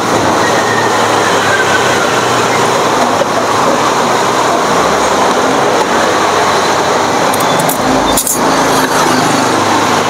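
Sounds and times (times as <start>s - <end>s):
loud street traffic: 0.0s - 10.0s.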